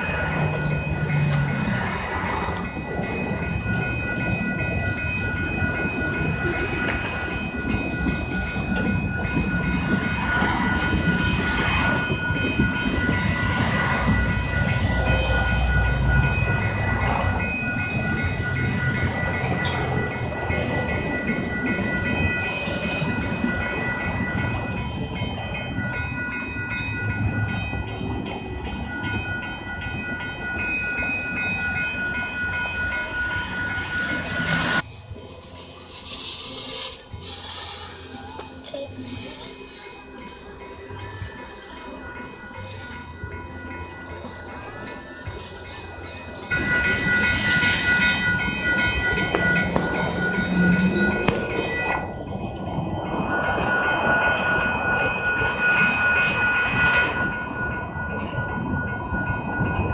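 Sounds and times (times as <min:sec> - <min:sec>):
crossing warning bell ringing: 0:00.0 - 0:59.9
freight train wheels clacking: 0:00.0 - 0:59.9.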